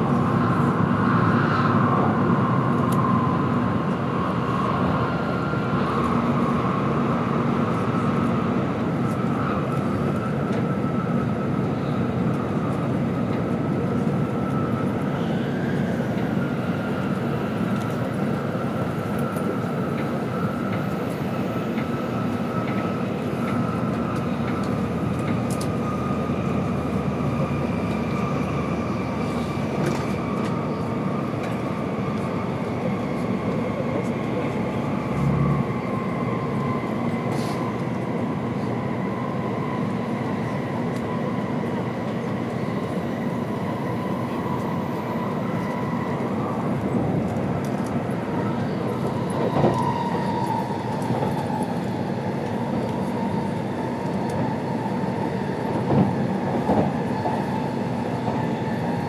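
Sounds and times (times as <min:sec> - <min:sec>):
train interior rumble and rush: 0:00.0 - 0:59.0.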